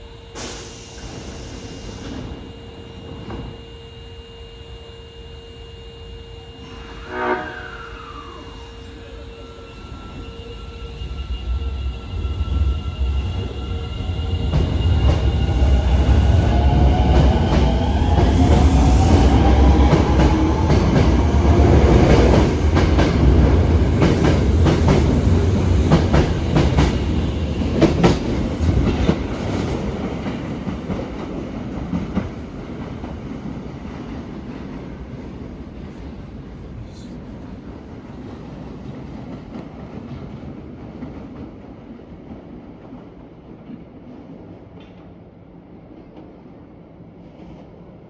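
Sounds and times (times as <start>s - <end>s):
subway train motors whining: 0.0s - 48.0s.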